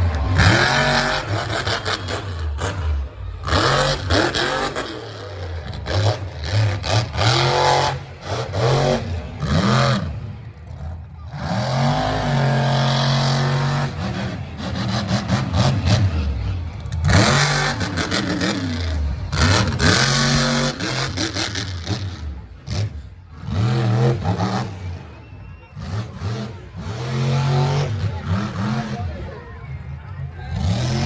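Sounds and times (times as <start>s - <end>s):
truck engine revving: 0.0s - 31.0s.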